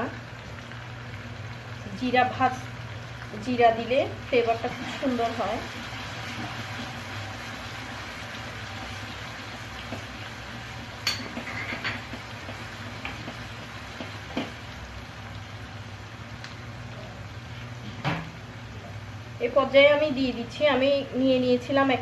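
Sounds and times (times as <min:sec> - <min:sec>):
spices sizzling in hot oil: 0:00.0 - 0:22.0.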